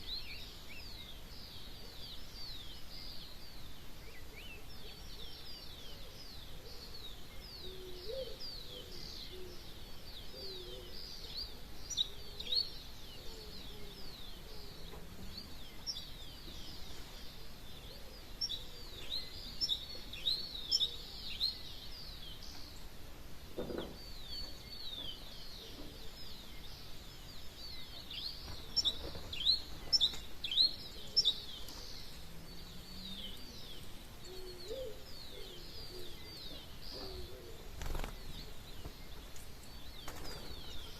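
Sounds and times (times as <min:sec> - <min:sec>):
lower wavering bird calls: 0:00.0 - 0:23.1, 0:23.7 - 0:40.9
small birds chirping: 0:00.0 - 0:40.9.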